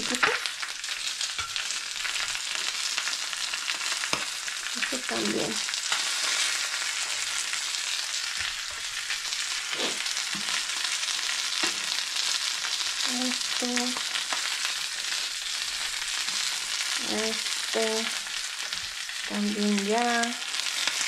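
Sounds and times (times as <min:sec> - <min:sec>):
chicken sizzling on griddle: 0:00.0 - 0:21.0.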